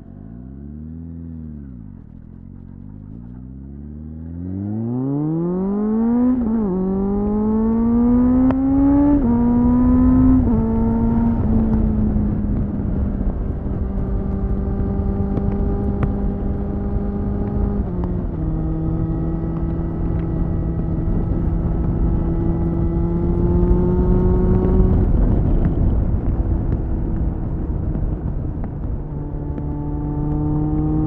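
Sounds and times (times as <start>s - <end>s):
motorcycle engine at high revs: 0.0s - 31.0s
wind rushing on microphone: 5.8s - 31.0s.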